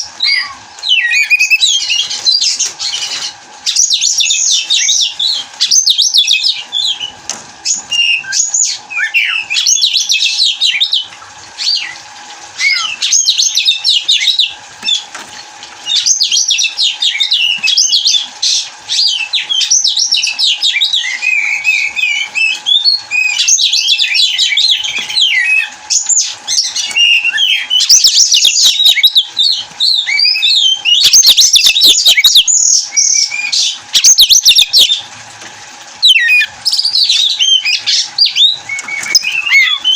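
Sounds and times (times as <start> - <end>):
bird singing whistled song: 0.0 - 3.0, 3.7 - 11.0, 12.6 - 15.0, 18.9 - 34.9, 36.0 - 39.9.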